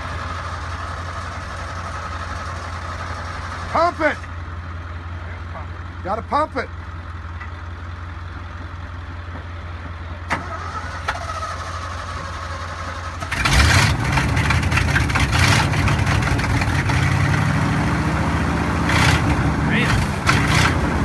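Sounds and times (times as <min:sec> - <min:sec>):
truck engine cranking and starting: 0:00.0 - 0:21.0
truck engine revving: 0:00.0 - 0:21.0.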